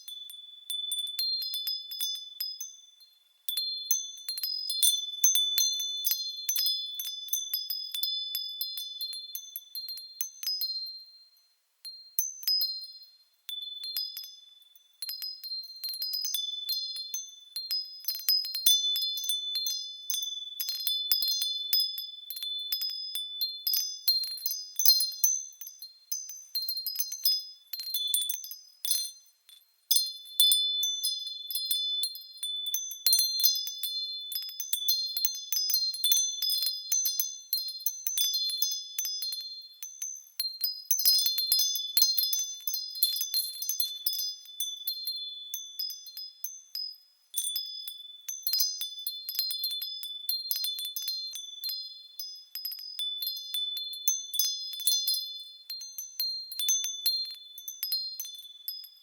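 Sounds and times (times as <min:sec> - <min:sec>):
wind chimes ringing: 0:00.0 - 0:59.0.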